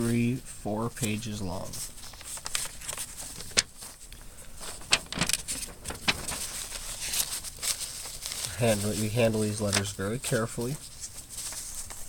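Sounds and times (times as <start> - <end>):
paper rustling: 0.9 - 12.0.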